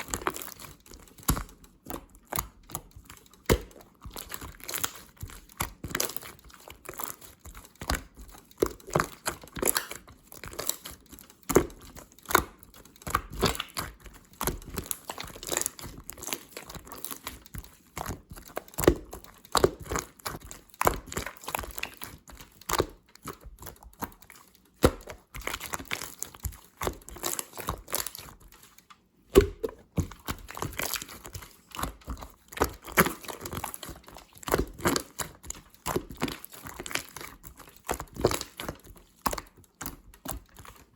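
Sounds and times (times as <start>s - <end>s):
slime popping and crackling: 0.0s - 40.9s.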